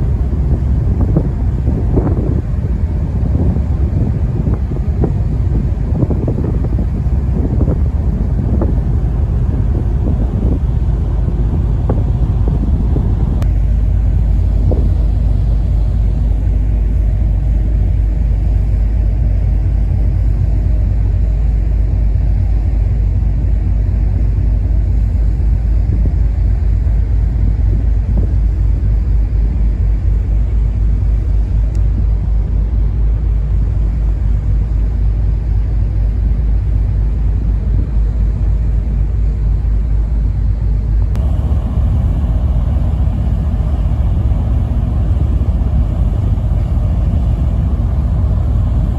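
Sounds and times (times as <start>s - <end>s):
ferry engine rumble: 0.0s - 48.9s.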